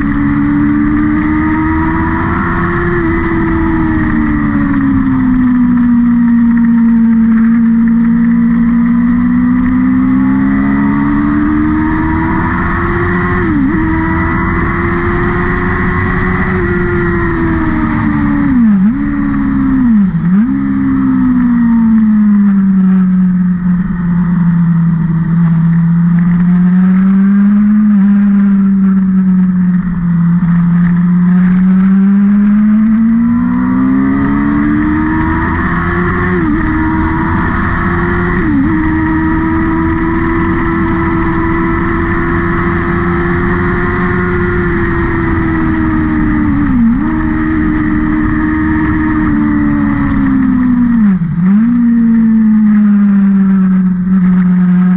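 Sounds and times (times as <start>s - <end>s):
race car engine: 0.0s - 54.9s.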